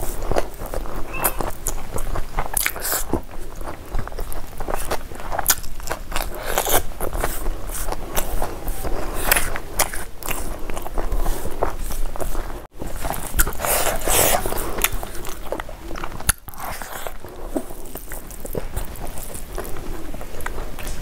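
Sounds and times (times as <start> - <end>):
chewing crunchy food: 0.0 - 21.0.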